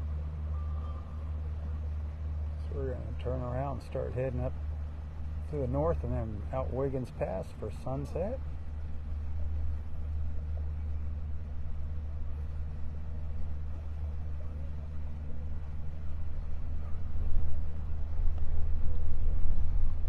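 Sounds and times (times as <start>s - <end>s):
boat motor droning: 0.0s - 20.0s.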